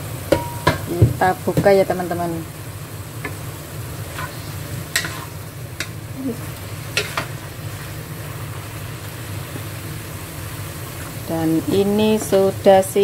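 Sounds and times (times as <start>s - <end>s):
cooking liquid sizzling in a wok: 0.0s - 13.0s.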